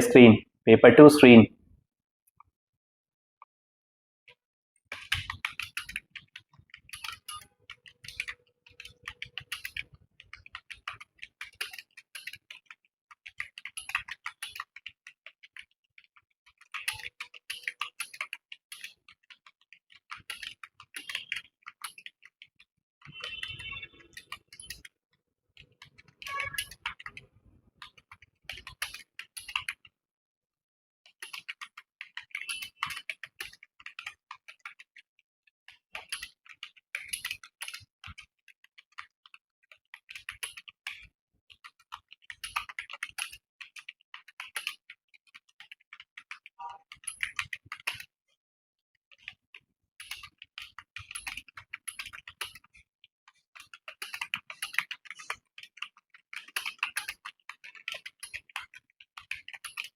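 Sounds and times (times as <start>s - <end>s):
fast typing on keyboard: 4.9s - 25.0s, 25.6s - 29.9s, 31.1s - 35.1s, 35.7s - 48.1s, 50.0s - 59.9s.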